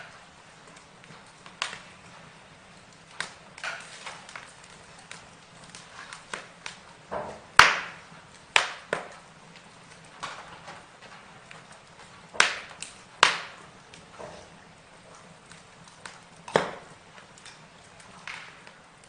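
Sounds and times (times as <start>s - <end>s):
burning wood crackling: 0.0s - 19.0s.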